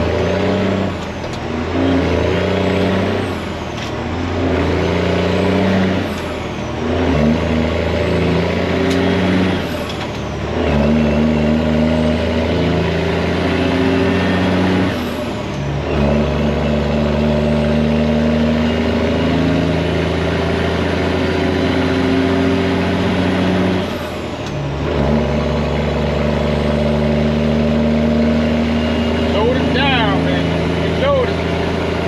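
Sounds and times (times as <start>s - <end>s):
diesel truck engine pulling: 0.0s - 32.0s.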